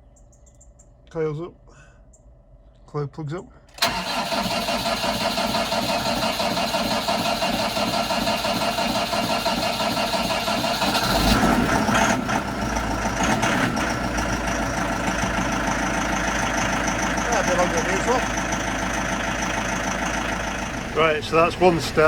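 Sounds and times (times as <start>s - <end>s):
starter motor cranking: 3.7s - 22.0s
tractor engine rumbling: 3.7s - 22.0s.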